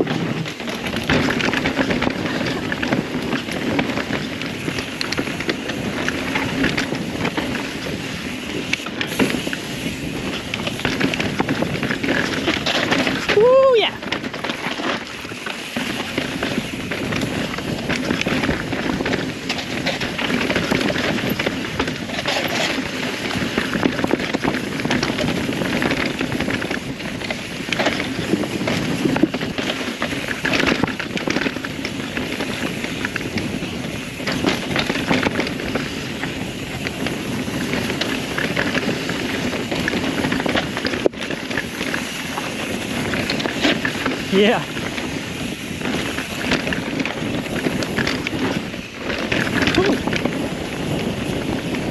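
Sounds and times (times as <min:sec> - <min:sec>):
bike knocking and rattling: 0:00.0 - 0:51.9
tyres rolling over dirt and gravel: 0:00.0 - 0:51.9.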